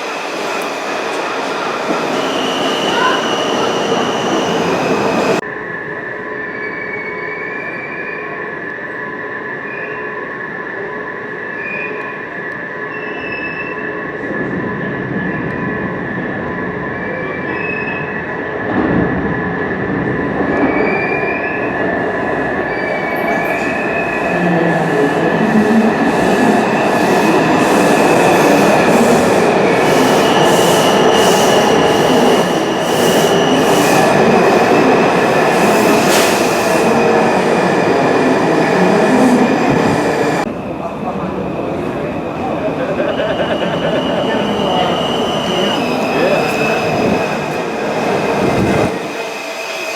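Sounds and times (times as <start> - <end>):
squealing wheels: 0.0 - 19.6, 20.5 - 40.5, 42.8 - 49.9
subway train rumble: 0.0 - 49.9.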